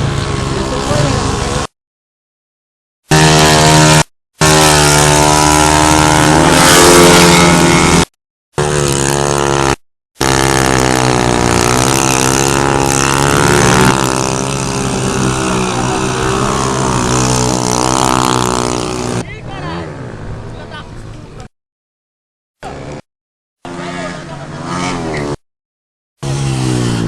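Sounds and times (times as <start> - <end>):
motorcycle engines revving: 0.0 - 1.7, 3.1 - 21.4, 22.6 - 25.4, 26.2 - 27.0.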